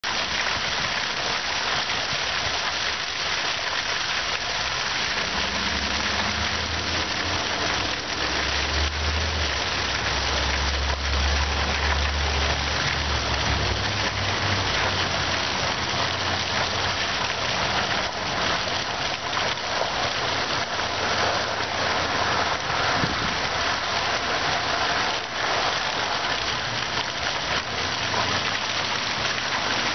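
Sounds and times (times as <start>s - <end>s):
fountain water splashing: 0.0s - 29.9s.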